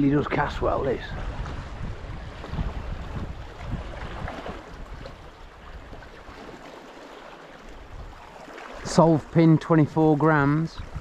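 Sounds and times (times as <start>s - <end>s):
wind buffeting the microphone: 0.0s - 6.5s, 7.6s - 11.0s
sea water washing against rocks: 0.2s - 11.0s.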